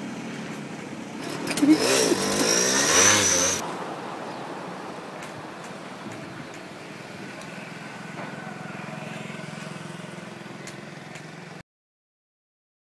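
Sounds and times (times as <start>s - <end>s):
street traffic noise: 0.0s - 11.6s
vehicle engine humming: 0.0s - 11.6s.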